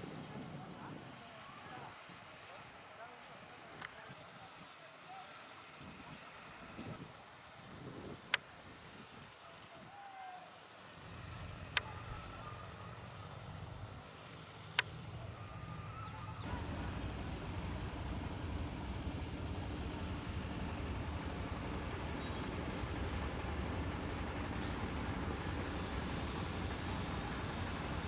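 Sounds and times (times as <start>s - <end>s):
insects calling: 0.0s - 28.0s.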